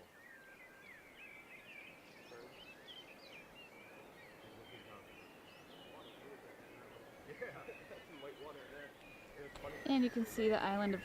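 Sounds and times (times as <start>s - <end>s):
background hiss: 0.0s - 11.0s
small birds chirping: 0.0s - 11.0s.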